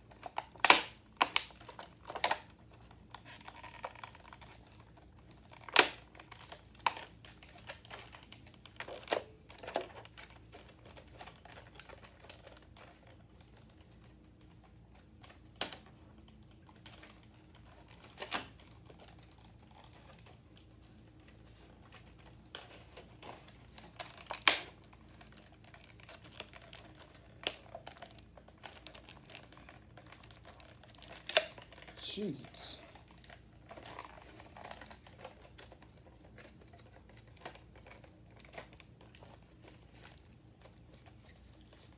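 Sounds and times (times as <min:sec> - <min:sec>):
packaging scraping and rustling: 0:00.2 - 0:41.9.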